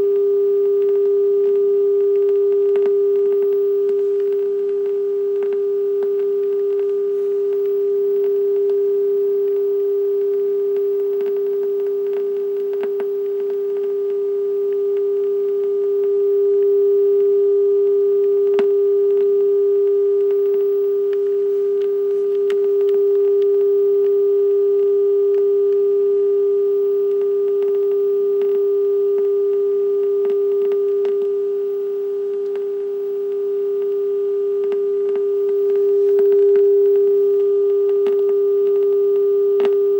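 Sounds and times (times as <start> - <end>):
faint ticks: 0.0 - 25.9, 27.0 - 31.4, 32.3 - 39.9
steady low-pitched tone: 0.0 - 39.9.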